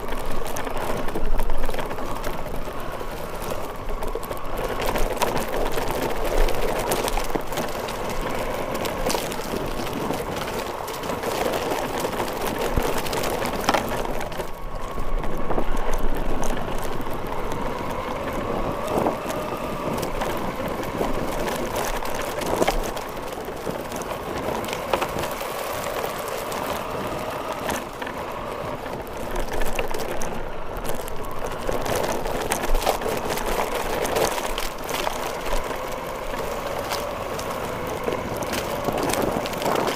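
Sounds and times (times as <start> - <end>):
tyres crunching over leaves: 0.0 - 39.9.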